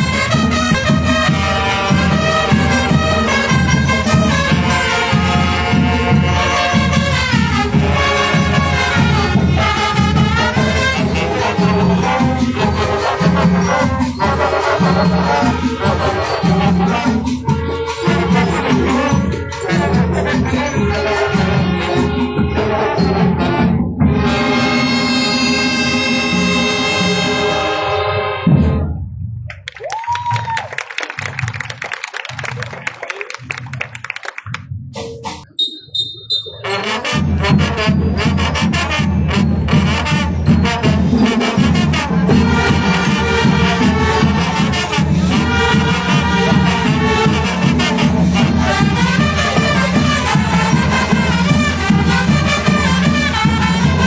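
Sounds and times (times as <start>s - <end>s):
brass band with percussion: 0.0s - 29.2s, 29.8s - 54.0s.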